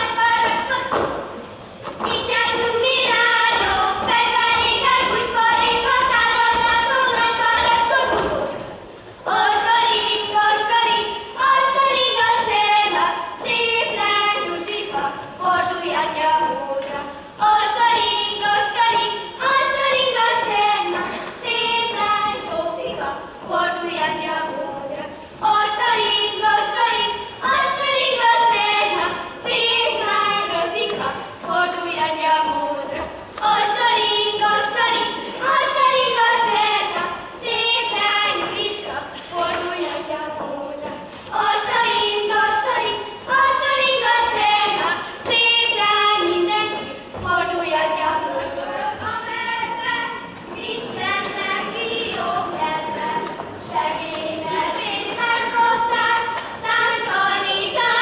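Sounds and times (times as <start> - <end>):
girls singing in unison: 0.0 - 58.0.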